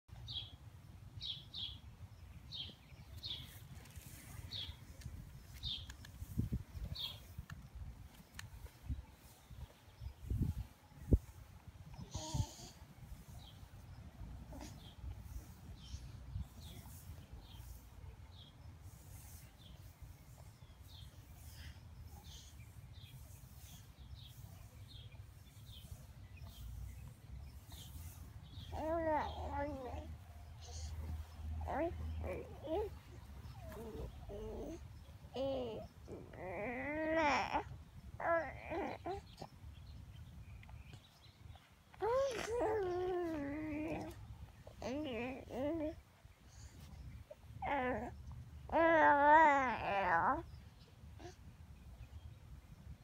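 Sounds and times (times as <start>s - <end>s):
bird chirping: 0.1s - 11.3s, 11.9s - 46.0s.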